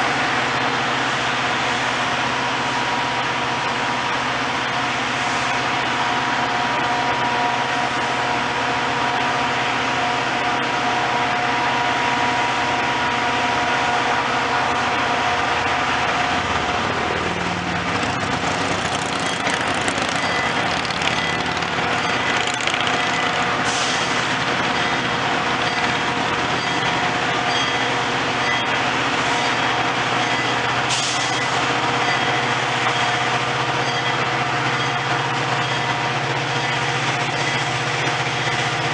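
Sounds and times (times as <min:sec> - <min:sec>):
diesel engine idling with whine: 0:00.0 - 0:38.9.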